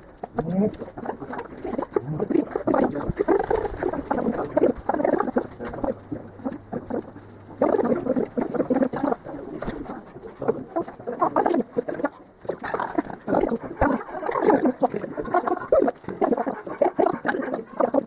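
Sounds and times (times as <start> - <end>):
dove-like cooing: 0.0 - 18.0.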